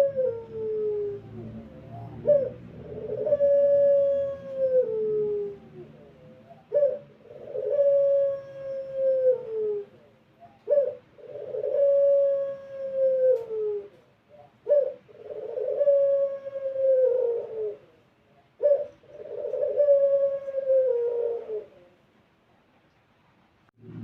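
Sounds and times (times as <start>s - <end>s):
dove cooing: 0.0s - 22.1s.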